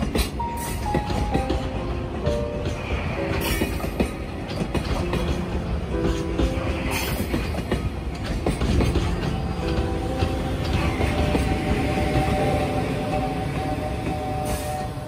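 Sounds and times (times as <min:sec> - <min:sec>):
wheels clacking over rail joints: 0:00.0 - 0:15.0.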